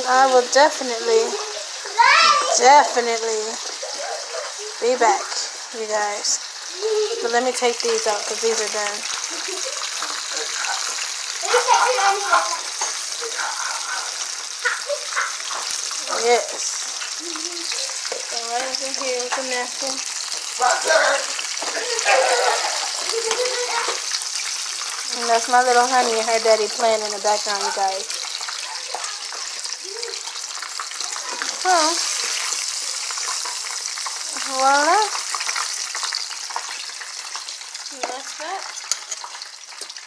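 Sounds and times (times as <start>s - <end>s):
chicken deep-frying in oil: 0.0s - 40.0s.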